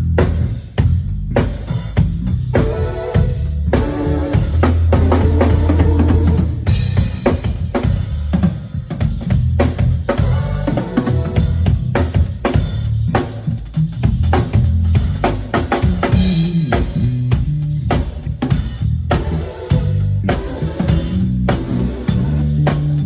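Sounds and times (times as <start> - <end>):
bass line: 0.0 - 23.0
drum kit groove: 0.0 - 23.0.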